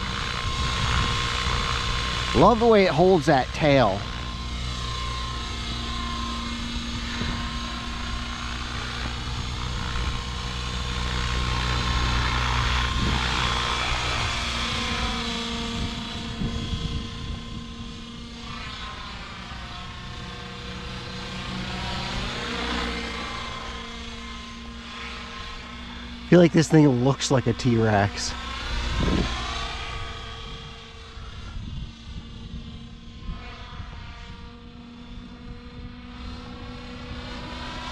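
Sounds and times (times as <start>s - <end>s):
rc helicopter rotor and motor whine: 0.0s - 37.9s.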